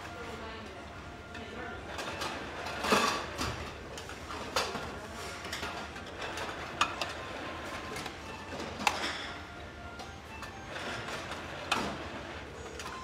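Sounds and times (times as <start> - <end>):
utensils clinking against dishes: 1.4 - 13.0.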